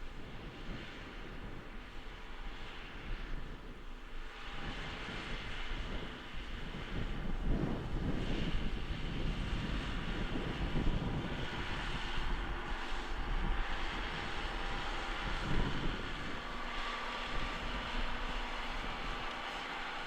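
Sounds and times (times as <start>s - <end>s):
tractor engine running under load: 0.0s - 20.0s.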